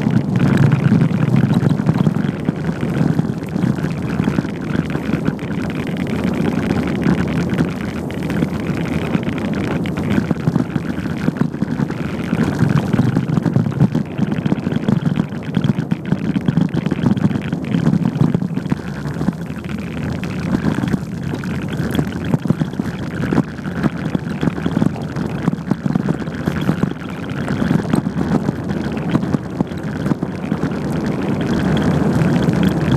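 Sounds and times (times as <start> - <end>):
bicycle tyres on dirt track: 0.0 - 32.9
wind buffeting microphone: 0.0 - 32.9.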